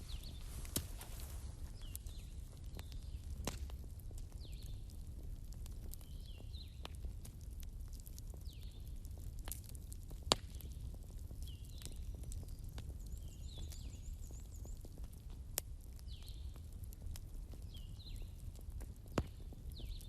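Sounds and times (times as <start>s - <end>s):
bonfire crackling and rumbling: 0.0s - 20.0s
fire popping: 0.0s - 20.0s.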